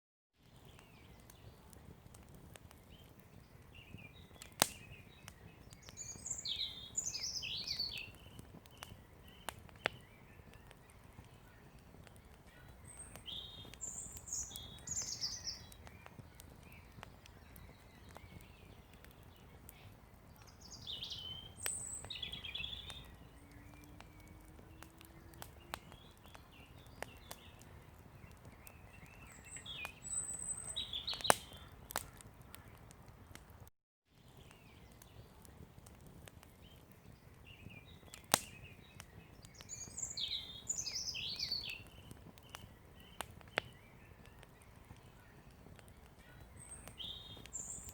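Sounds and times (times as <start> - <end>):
campfire burning: 0.4 - 47.9
fire popping: 0.4 - 47.9
birds chirping: 0.5 - 33.4, 34.2 - 47.9.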